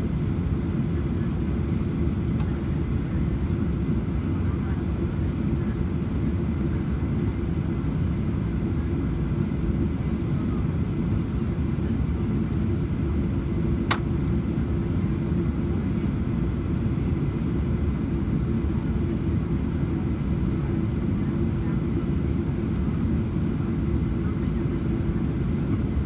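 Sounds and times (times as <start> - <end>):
airplane cabin rumble: 0.0 - 26.0.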